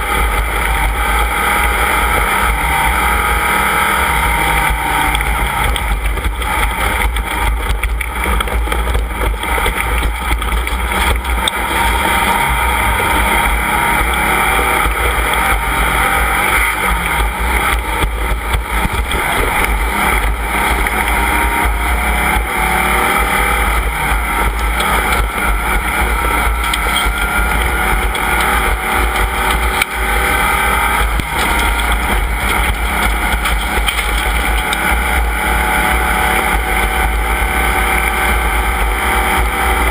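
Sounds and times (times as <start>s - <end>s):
race vehicle engines running: 0.0s - 39.9s.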